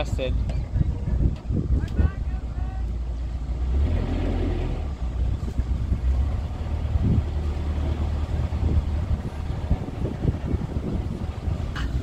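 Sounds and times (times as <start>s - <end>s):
boat diesel engine rumbling: 0.0s - 12.0s.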